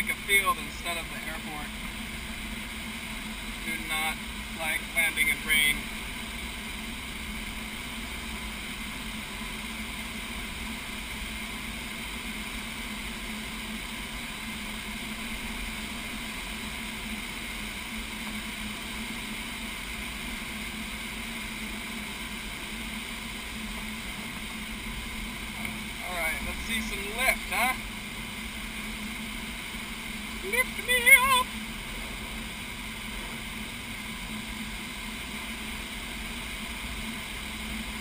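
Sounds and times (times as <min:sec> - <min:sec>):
faint even hum: 0:00.0 - 0:38.0.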